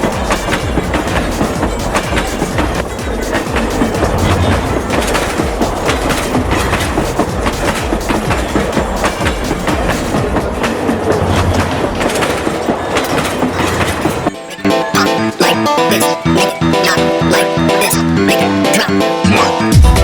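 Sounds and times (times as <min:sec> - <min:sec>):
toy train clattering on track: 0:00.0 - 0:18.9.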